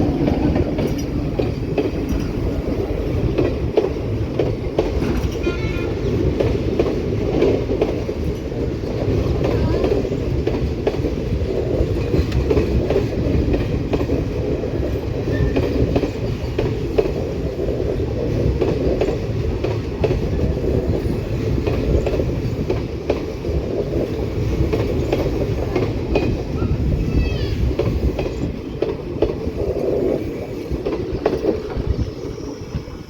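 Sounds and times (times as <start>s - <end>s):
rail joint clicks: 0.0s - 33.0s
train wheels rumbling on rails: 0.0s - 33.0s.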